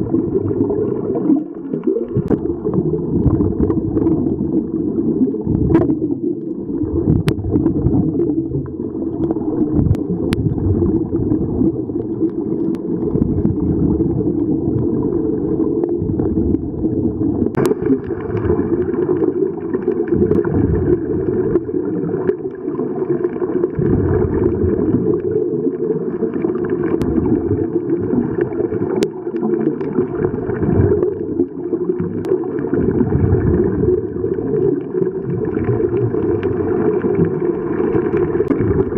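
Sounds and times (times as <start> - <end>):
bubbles gurgling underwater: 0.0 - 38.9
underwater rumble: 0.0 - 38.9.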